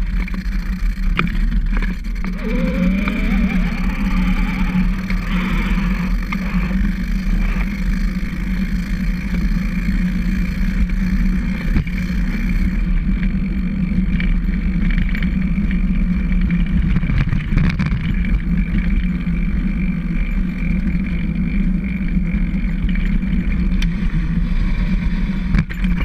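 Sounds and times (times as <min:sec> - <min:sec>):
chain drive whirring: 0:00.0 - 0:24.4
trike rolling on concrete: 0:00.0 - 0:26.0.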